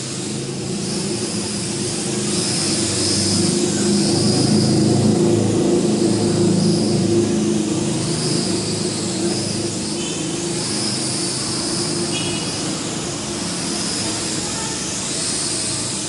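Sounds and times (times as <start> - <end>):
quadcopter rotors buzzing: 0.0 - 16.0.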